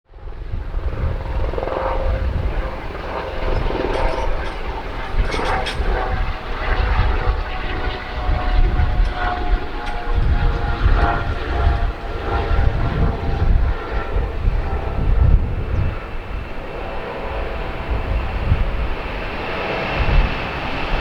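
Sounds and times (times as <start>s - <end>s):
wind buffeting microphone: 0.1s - 21.0s
jet engines roaring: 0.3s - 21.0s.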